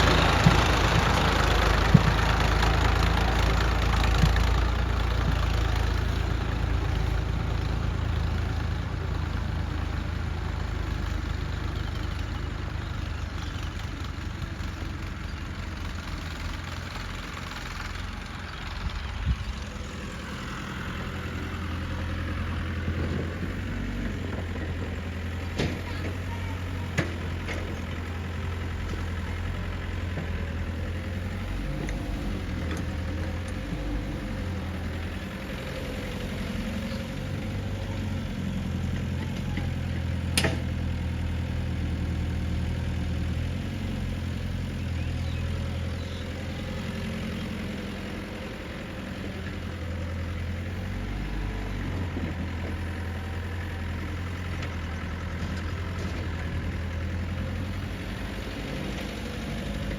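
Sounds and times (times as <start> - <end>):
diesel engines idling: 0.0 - 59.9.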